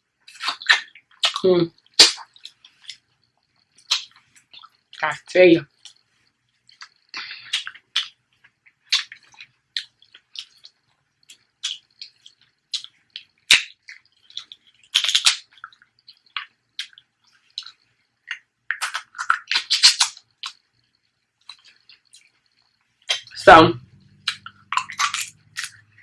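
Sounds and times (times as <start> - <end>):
crab shell cracking and chewing: 0.2 - 5.0, 5.6 - 26.0.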